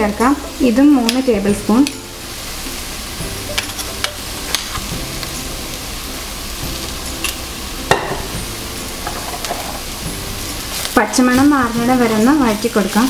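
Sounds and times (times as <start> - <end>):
masala sizzling in oil: 0.0 - 13.0.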